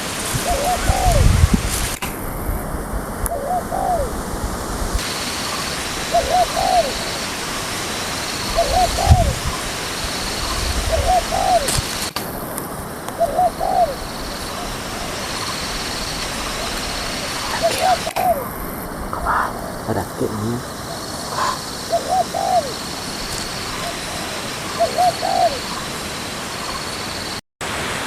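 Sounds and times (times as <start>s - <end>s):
dove cooing: 0.0s - 4.9s, 5.5s - 7.5s, 8.4s - 12.1s, 13.1s - 26.0s
steady background hiss: 0.0s - 28.0s.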